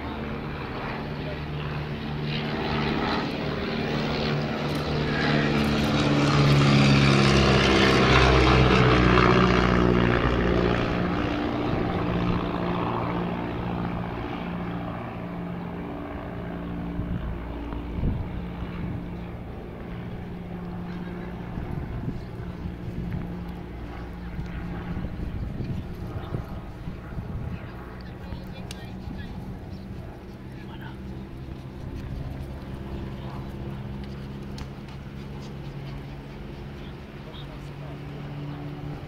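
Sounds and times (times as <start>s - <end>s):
propeller plane droning: 0.0s - 39.0s.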